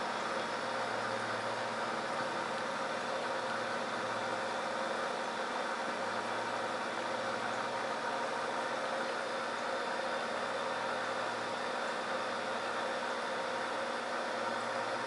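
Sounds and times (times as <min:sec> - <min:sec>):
air pump humming: 0:00.0 - 0:15.0.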